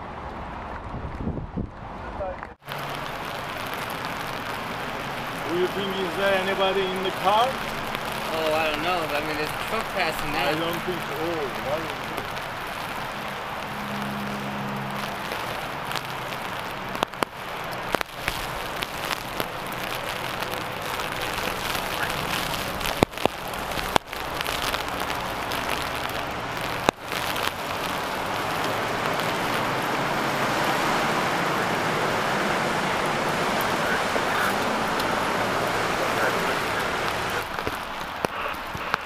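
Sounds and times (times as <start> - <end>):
flowing floodwater: 1.8 - 39.0
rain hissing: 2.6 - 39.0.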